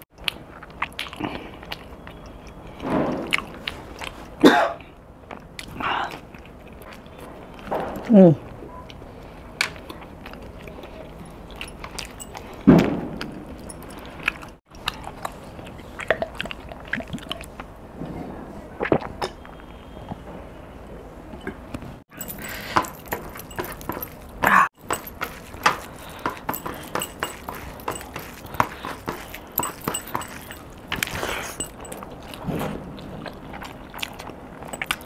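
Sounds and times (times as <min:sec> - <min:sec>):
wet chewing and lip smacks: 0:00.1 - 0:04.4, 0:05.2 - 0:08.1, 0:08.8 - 0:17.8, 0:22.1 - 0:35.0.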